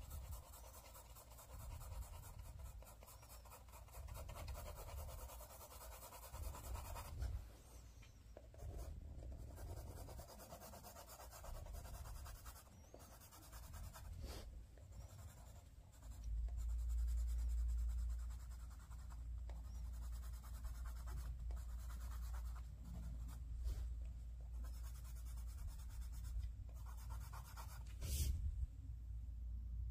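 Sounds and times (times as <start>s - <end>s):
colored pencil scratching on paper: 0.0s - 7.4s, 8.3s - 23.8s, 24.5s - 28.4s.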